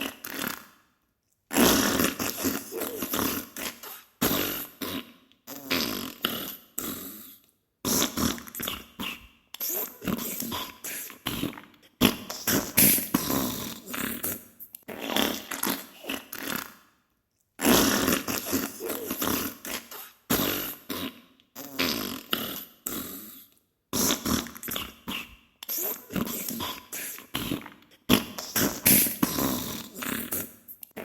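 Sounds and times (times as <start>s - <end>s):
fart sounds in short bursts: 1.5s - 7.2s, 7.9s - 10.6s, 11.2s - 16.8s, 17.6s - 23.0s, 24.0s - 31.0s.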